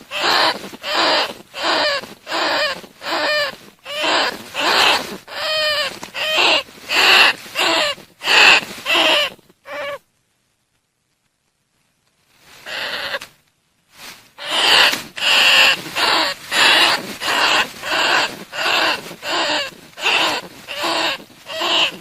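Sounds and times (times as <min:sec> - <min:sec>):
rat calls: 0:00.0 - 0:10.0, 0:12.6 - 0:13.3, 0:14.4 - 0:22.0.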